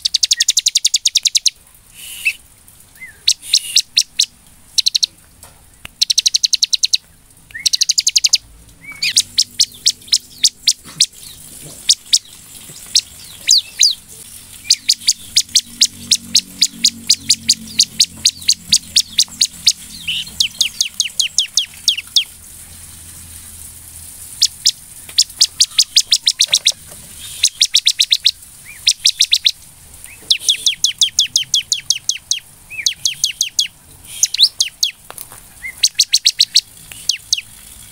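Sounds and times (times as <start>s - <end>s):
bird chirping rapidly: 0.0s - 2.4s, 3.0s - 5.1s, 5.7s - 22.4s, 24.2s - 37.9s.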